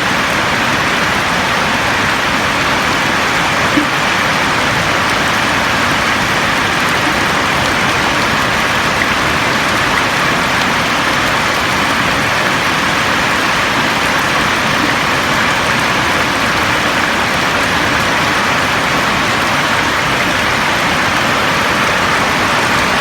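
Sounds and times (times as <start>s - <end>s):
rain falling on a roof: 0.0s - 23.0s.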